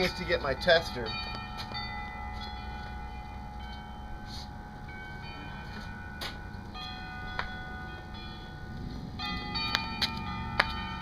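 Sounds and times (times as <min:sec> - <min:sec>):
metal wind chimes ringing: 0:00.0 - 0:11.0.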